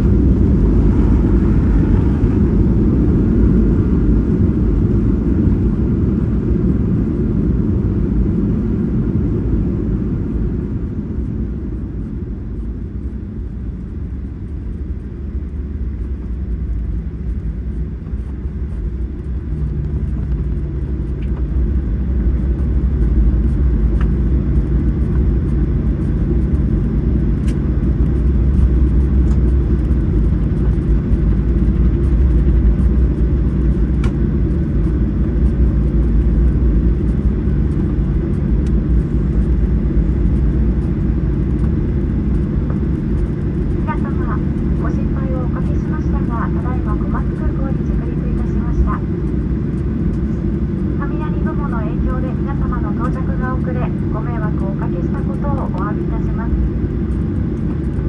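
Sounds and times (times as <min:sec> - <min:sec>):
airliner cabin engine rumble: 0:00.0 - 0:58.0
steady low hum: 0:00.0 - 0:58.0.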